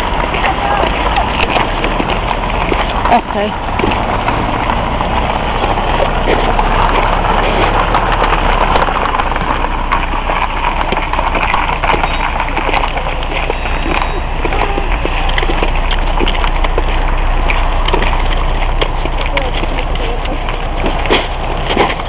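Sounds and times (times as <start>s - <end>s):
fire crackling and popping: 0.0s - 22.0s
wood fire flames rushing: 0.0s - 22.0s.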